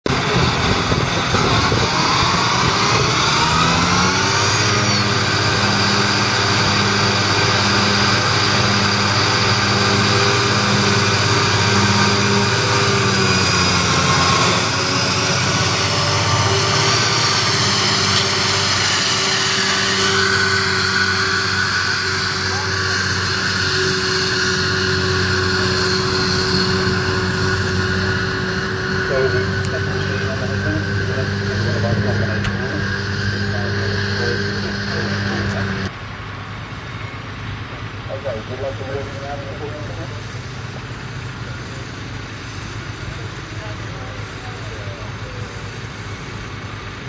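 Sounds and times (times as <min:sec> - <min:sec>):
mower whine: 0:00.0 - 0:47.0
tractor diesel engine running: 0:00.0 - 0:47.0.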